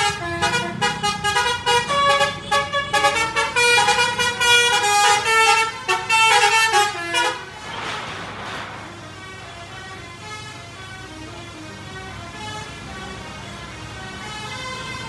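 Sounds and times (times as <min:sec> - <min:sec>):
bus melody horn: 0:00.0 - 0:07.6, 0:09.3 - 0:15.0.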